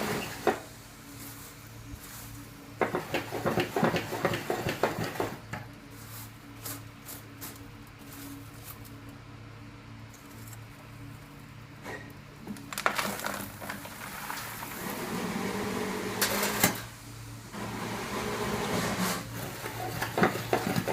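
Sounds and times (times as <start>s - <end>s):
steady low hum: 0.0s - 15.4s, 16.7s - 20.9s.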